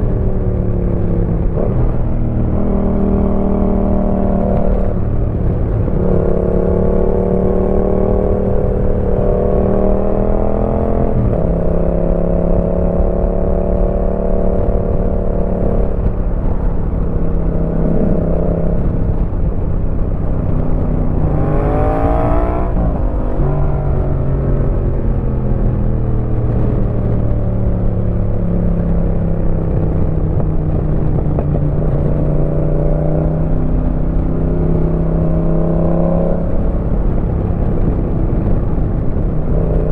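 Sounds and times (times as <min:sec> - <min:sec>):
motorcycle engine revving: 0:01.0 - 0:39.9.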